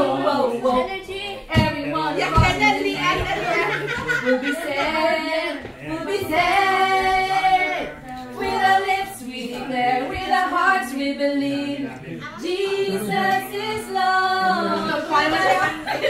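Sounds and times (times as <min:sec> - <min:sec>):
women singing without instruments: 0:00.0 - 0:15.9.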